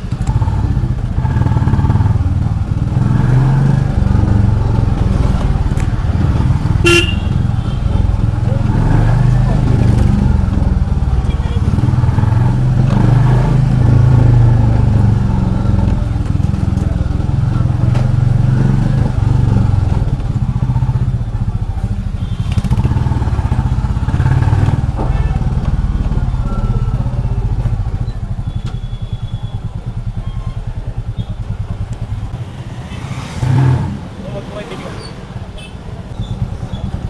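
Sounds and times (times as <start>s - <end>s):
motorcycle engine thumping: 0.0s - 32.7s.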